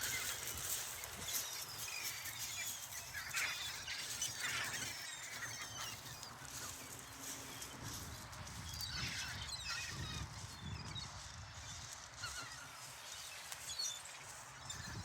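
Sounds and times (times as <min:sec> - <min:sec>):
flock of seagulls calling: 0:00.0 - 0:15.0.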